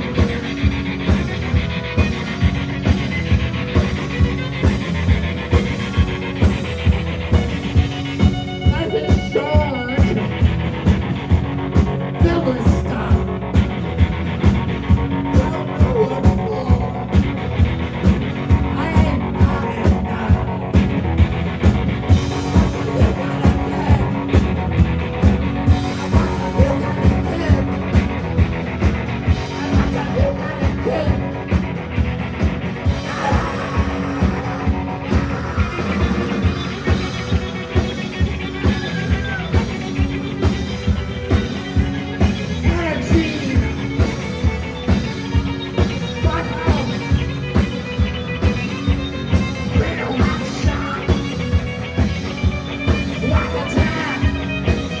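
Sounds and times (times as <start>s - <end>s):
live rock band playing: 0.0s - 55.0s
steady drum beat: 0.0s - 55.0s.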